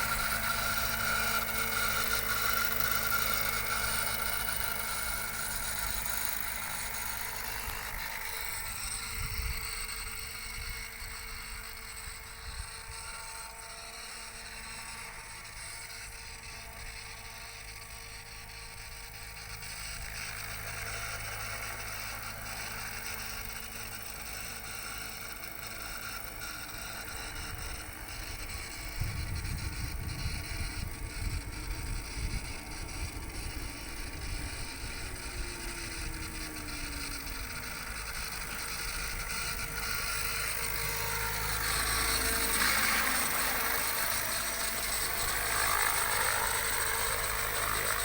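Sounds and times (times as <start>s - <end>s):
helicopter engine and rotor hum: 0.0s - 48.0s.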